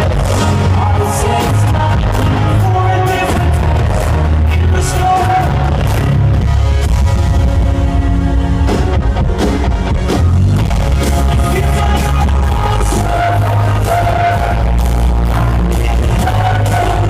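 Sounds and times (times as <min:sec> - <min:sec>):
heavy bass: 0:00.0 - 0:17.0
live pop-rock band playing: 0:00.0 - 0:17.0
sustained synth and guitar tones: 0:00.0 - 0:17.0.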